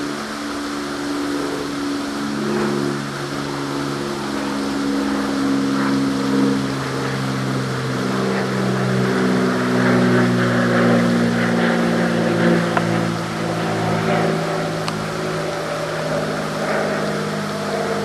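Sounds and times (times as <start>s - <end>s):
engines droning: 0.0s - 18.0s.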